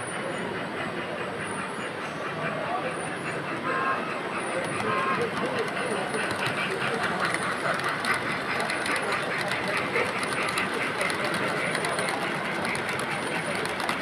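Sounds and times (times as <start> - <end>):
model train wheels clicking on rails: 0.0 - 14.0.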